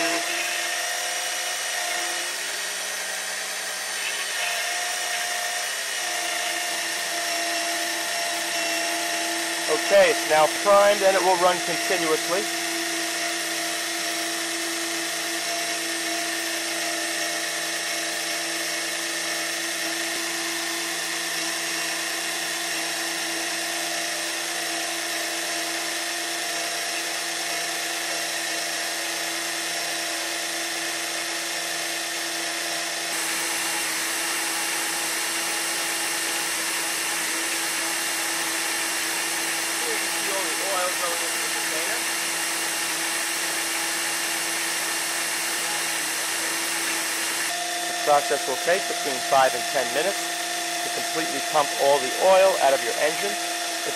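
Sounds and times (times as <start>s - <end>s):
electric pump whining: 0.0s - 53.9s.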